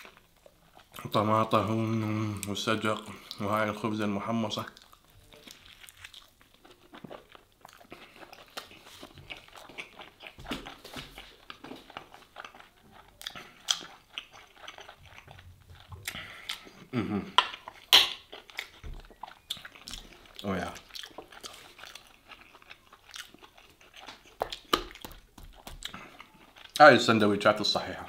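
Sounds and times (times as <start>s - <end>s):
chewing and crunching sandwich: 0.0s - 3.7s, 4.5s - 28.0s.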